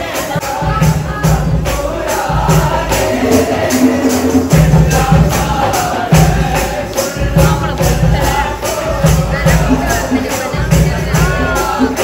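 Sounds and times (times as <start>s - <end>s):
group singing: 0.0s - 12.0s
steady beat: 0.0s - 12.0s.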